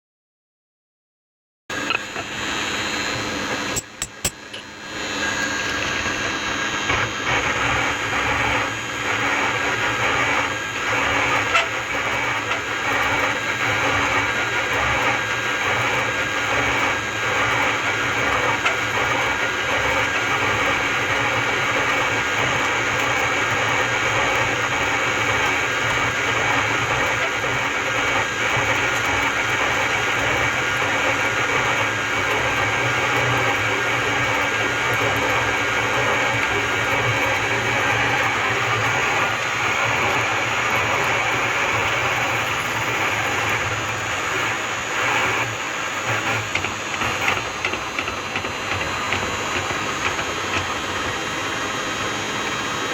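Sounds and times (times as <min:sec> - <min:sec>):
milling machine cutting metal: 0:01.7 - 0:52.9.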